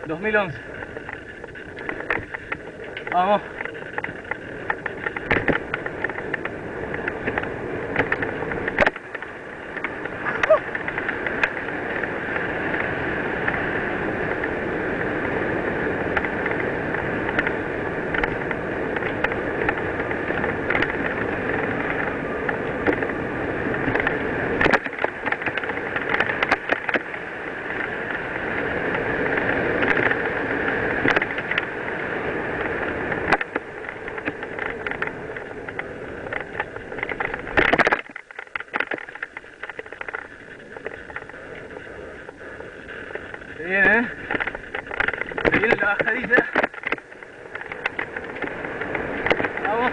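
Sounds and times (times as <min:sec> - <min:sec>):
bike rattling and knocking: 0:00.0 - 0:49.9
bike tyres on dirt trail: 0:00.0 - 0:49.9.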